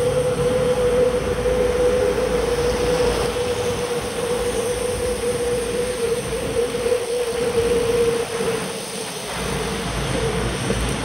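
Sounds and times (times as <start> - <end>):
tyres hissing on wet road: 0.0 - 11.0
wind on microphone: 0.0 - 11.0.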